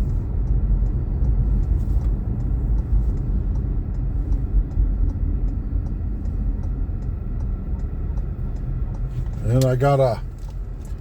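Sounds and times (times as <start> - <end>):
faint regular ticking: 0.0 - 11.0
road and engine rumble in car: 0.0 - 11.0.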